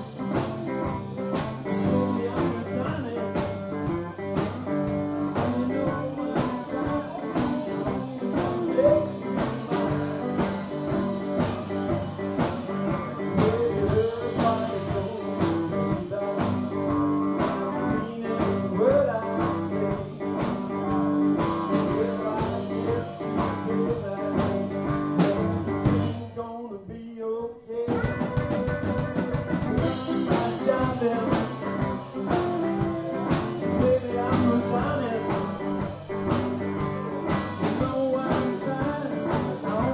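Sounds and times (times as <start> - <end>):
drum kit beat: 0.0 - 26.4, 27.8 - 39.9
electric guitars: 0.0 - 26.4, 27.9 - 39.9.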